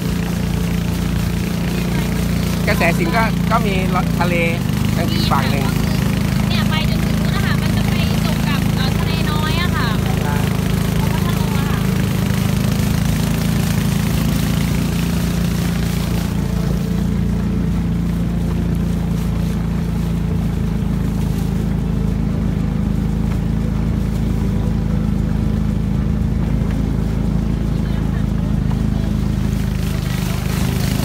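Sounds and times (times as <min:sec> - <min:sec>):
boat engine running: 0:00.0 - 0:31.0
water rushing: 0:00.0 - 0:31.0.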